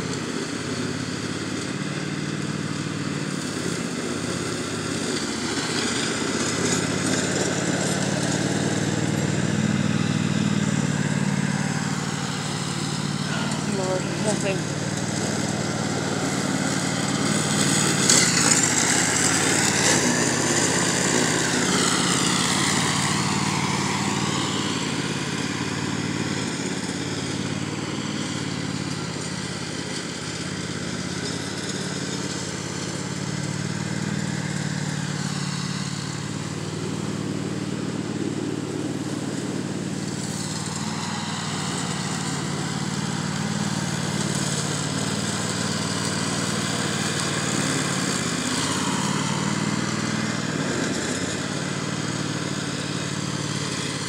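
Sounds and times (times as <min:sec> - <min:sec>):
riding lawn mower engine: 0:00.0 - 0:54.0.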